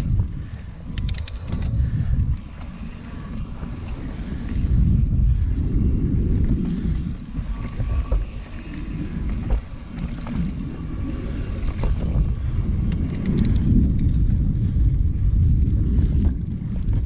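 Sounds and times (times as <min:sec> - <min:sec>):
bike clicks and rattles: 0:00.0 - 0:17.0
wind on microphone: 0:00.0 - 0:17.0
bike tyres rumbling on dirt: 0:01.3 - 0:17.0.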